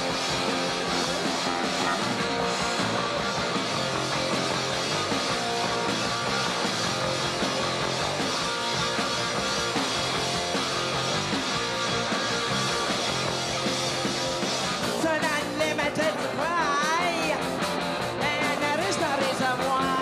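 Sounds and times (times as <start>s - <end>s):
drums: 0.0s - 20.0s
electric guitar: 0.0s - 20.0s.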